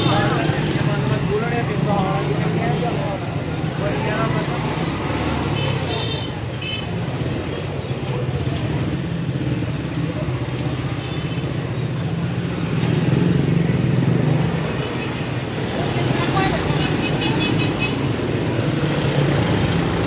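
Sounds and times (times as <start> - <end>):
faint street chatter: 0.0 - 20.0.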